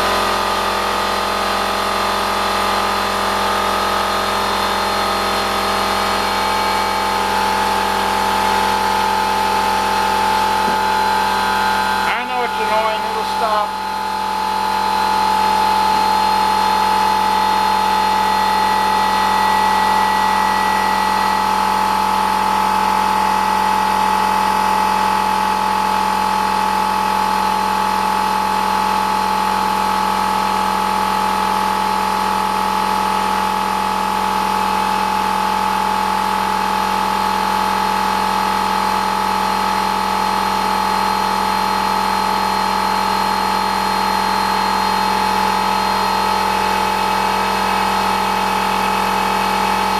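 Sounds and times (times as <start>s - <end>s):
air compressor running: 0.0s - 49.9s.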